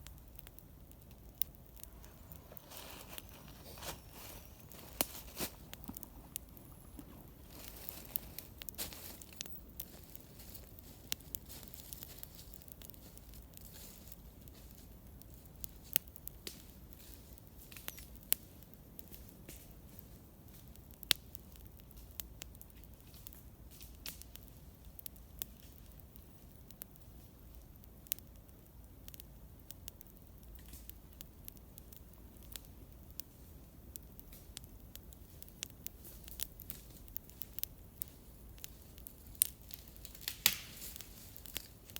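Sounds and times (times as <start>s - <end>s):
campfire crackling and popping: 0.0s - 41.9s
faint steady hiss: 0.0s - 41.9s.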